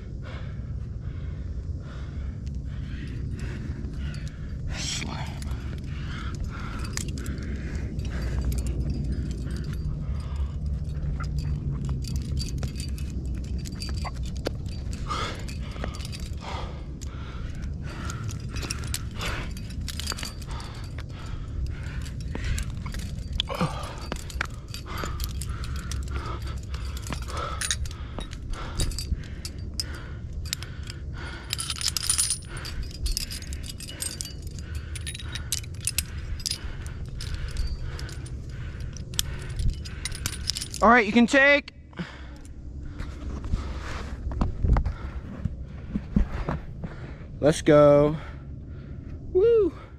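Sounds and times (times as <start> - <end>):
low steady rumble: 0.0 - 49.9
metal climbing gear clinking: 0.2 - 49.9.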